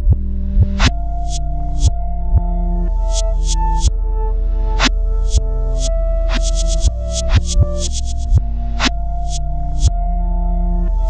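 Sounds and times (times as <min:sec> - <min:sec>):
electronic music: 0:00.6 - 0:11.0.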